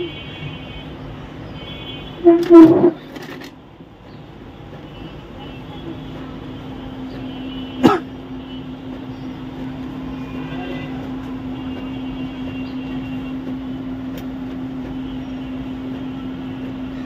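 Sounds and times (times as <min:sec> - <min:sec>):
printer motor hum: 0:00.1 - 0:17.0
printer mechanism whining: 0:00.3 - 0:17.0.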